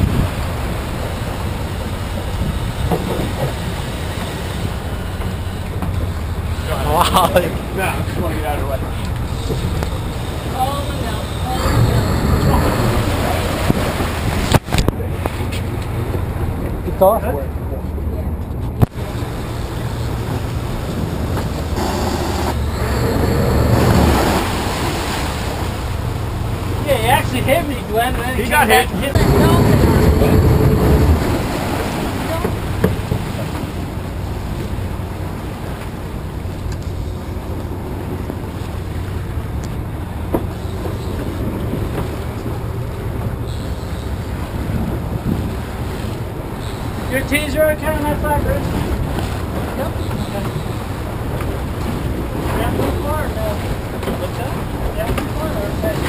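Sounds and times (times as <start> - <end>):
boat engines rumbling: 0.0 - 56.0
rushing water: 0.0 - 56.0
wind: 0.0 - 56.0.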